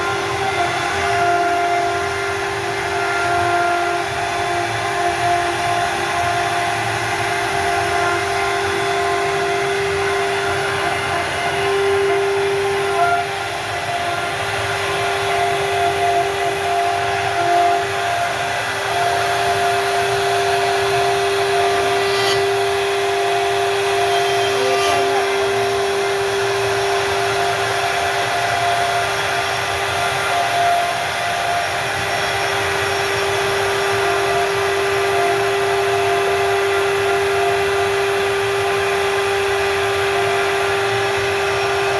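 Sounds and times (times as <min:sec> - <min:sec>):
router bit cutting wood: 0:00.0 - 0:41.9
router spindle high whine: 0:00.0 - 0:41.9.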